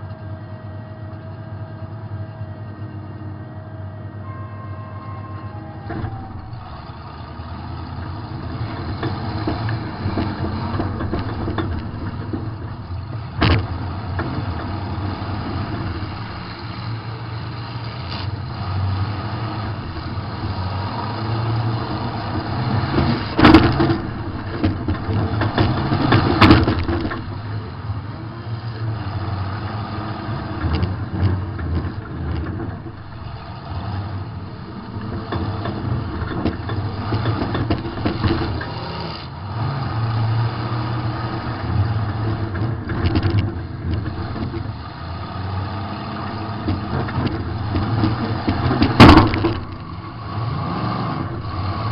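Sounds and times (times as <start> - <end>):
car engine revving: 1.0 - 51.9.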